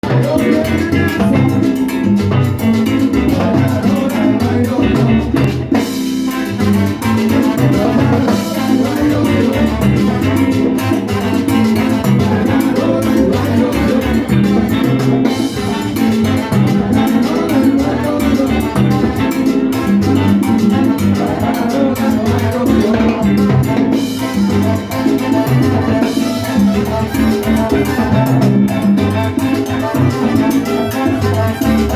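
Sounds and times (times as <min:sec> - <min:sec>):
salsa band playing: 0:00.0 - 0:31.9.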